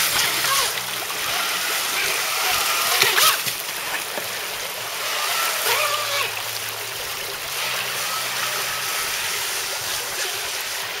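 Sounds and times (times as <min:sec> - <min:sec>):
model boat jet drive whining: 0:00.0 - 0:11.0
water splashes: 0:00.0 - 0:11.0
whitewater creek rushing: 0:00.0 - 0:11.0.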